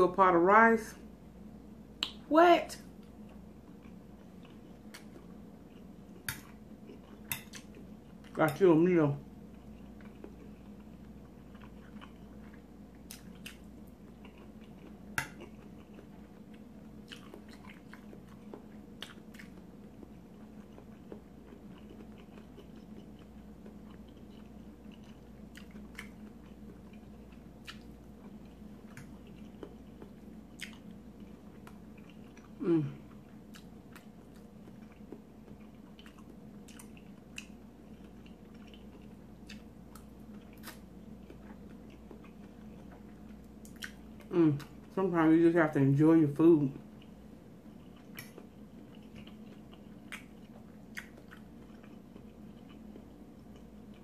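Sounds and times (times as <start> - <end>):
steady low hum: 0.0 - 54.0
close-up chewing: 3.0 - 8.4, 9.5 - 45.0, 46.9 - 54.0.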